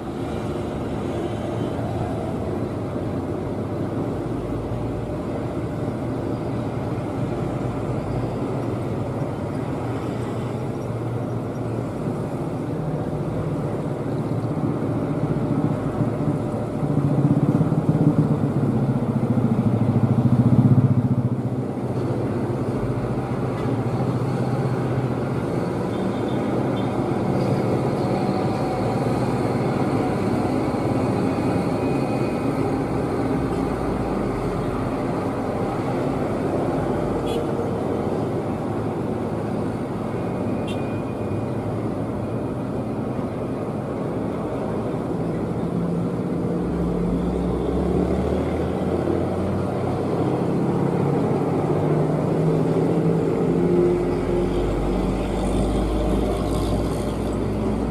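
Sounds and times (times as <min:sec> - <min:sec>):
truck engine running hard: 0:00.0 - 0:57.9.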